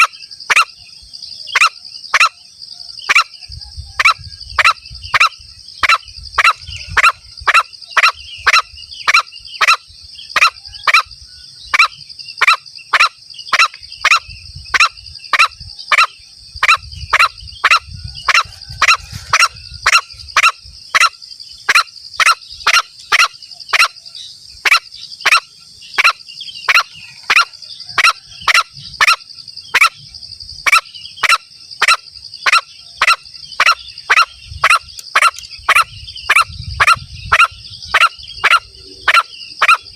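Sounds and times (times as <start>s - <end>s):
sharp clucking bird call: 0.0s - 0.8s, 1.5s - 2.4s, 3.0s - 3.4s, 4.0s - 11.1s, 11.7s - 24.0s, 24.6s - 30.0s, 30.6s - 39.9s
high-pitched insect drone: 0.0s - 39.9s.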